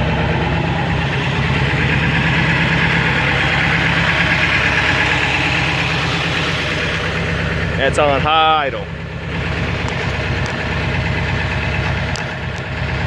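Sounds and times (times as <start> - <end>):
diesel engine idling rough: 0.0 - 13.0.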